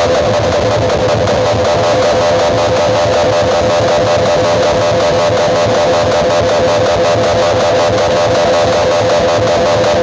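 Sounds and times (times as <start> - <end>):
loud guitar music over pa: 0.0 - 10.0.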